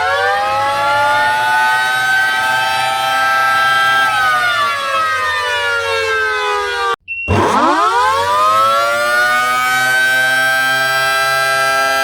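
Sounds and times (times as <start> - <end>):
air raid siren winding down: 0.0 - 12.0.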